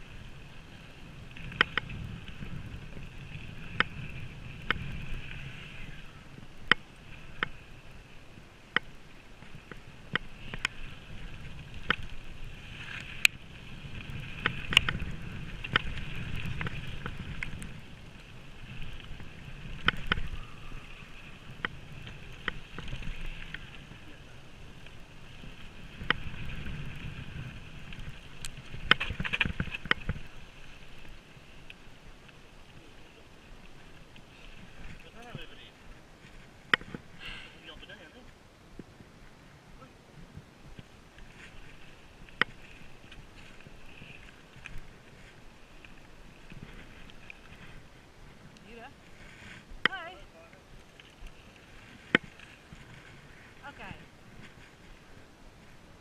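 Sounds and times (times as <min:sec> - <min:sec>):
bike tyres rolling over dirt: 0:00.0 - 0:38.1, 0:40.1 - 0:56.0
wind on microphone: 0:00.0 - 0:56.0.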